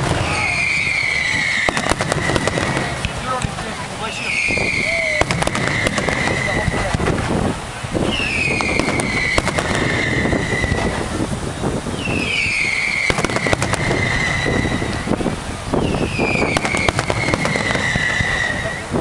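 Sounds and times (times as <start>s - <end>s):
firework shells whistling: 0.0s - 3.5s, 4.1s - 7.2s, 8.0s - 11.1s, 11.9s - 18.9s
firework bangs and crackles: 0.0s - 19.0s.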